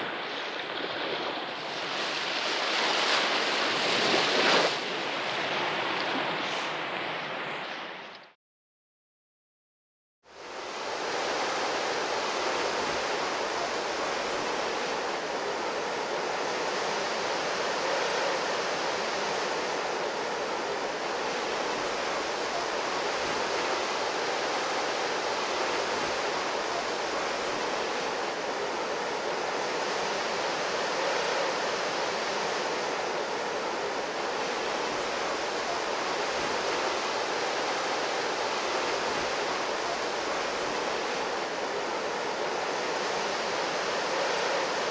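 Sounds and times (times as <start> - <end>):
rushing water hiss: 0.0 - 8.1, 10.4 - 44.9.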